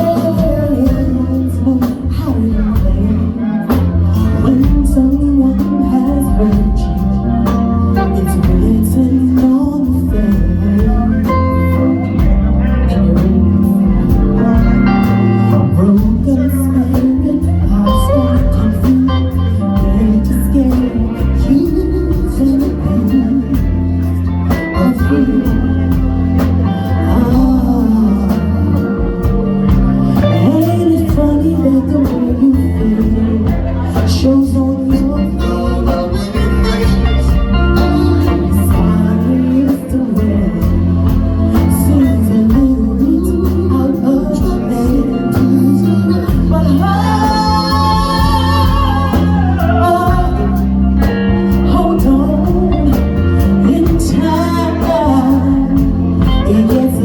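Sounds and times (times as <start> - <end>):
live band playing slow r and b: 0.0 - 57.0
person singing: 0.0 - 57.0.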